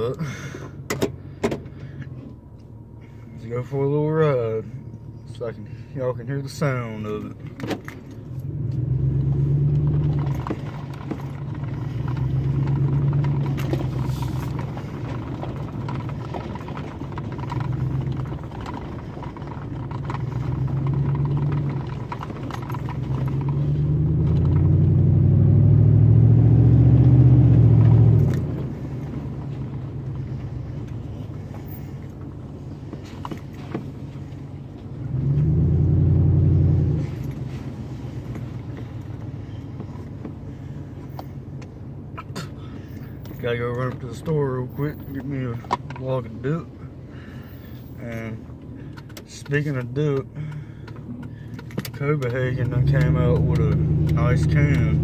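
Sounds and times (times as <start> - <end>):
truck exhaust roaring: 0.0 - 55.0.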